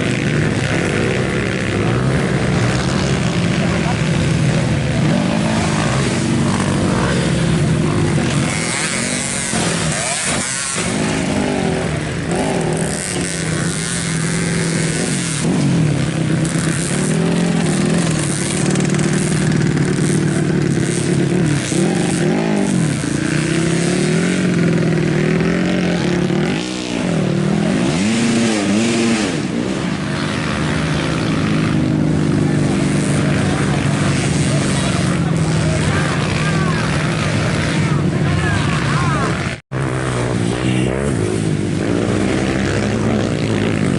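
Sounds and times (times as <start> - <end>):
racing motorcycle engines revving: 0.0 - 43.9.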